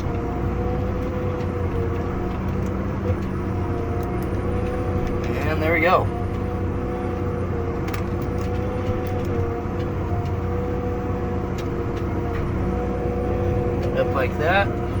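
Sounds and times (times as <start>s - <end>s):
tractor engine droning with whine: 0.0s - 15.0s.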